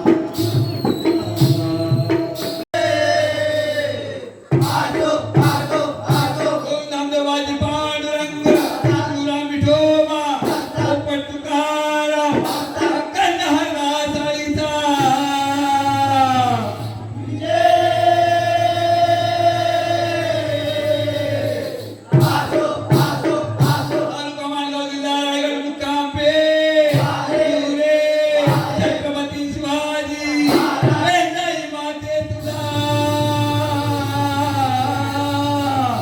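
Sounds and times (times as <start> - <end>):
chorus singing: 0.0 - 24.4, 25.4 - 36.0
sharp rhythmic beats: 0.0 - 24.7, 26.1 - 36.0.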